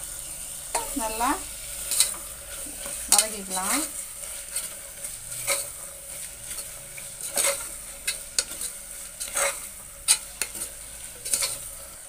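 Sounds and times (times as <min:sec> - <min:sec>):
food sizzling: 0:00.0 - 0:12.0
spoon scraping pot: 0:00.7 - 0:11.9.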